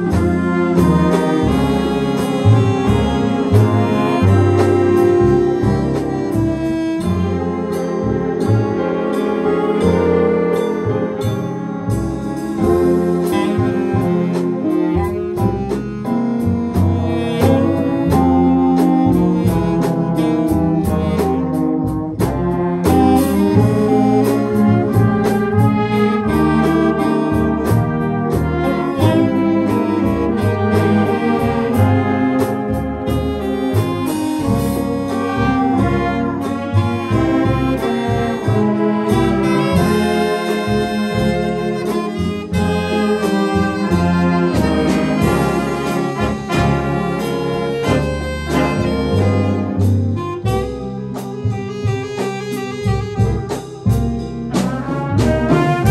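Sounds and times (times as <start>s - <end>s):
jazz big band playing: 0.0s - 55.9s.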